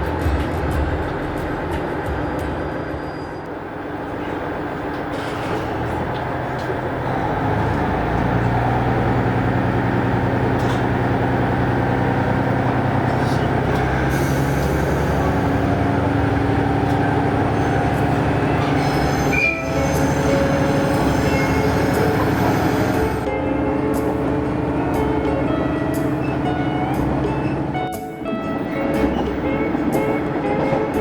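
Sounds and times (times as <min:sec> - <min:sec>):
railcar engine rumble: 0:00.0 - 0:31.0.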